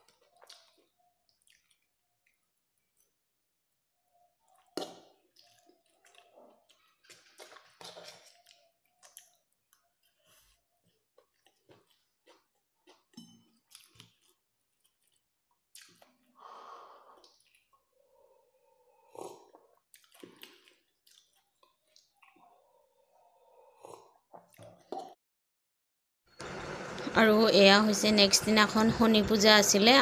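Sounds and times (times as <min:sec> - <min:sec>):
faint chewing of noodles: 0:00.0 - 0:25.2.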